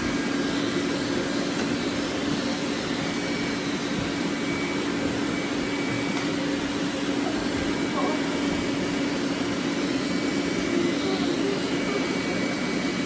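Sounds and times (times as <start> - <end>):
robot vacuum cleaners whirring: 0.0 - 13.0.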